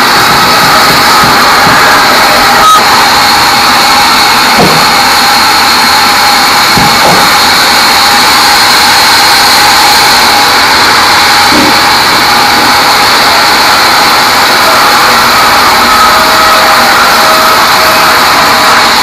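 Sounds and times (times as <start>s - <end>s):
band saw whining: 0.0s - 19.0s.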